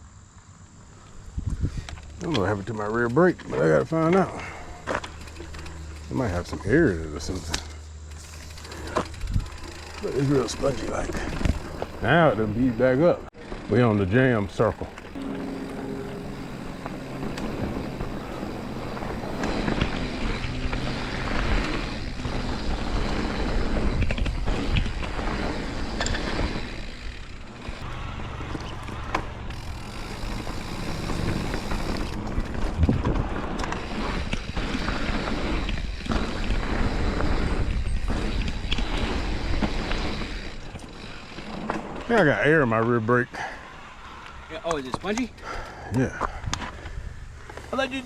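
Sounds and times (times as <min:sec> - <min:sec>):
bike tyres rumbling on dirt: 0:01.0 - 0:48.0
bike knocking and rattling: 0:01.4 - 0:48.0.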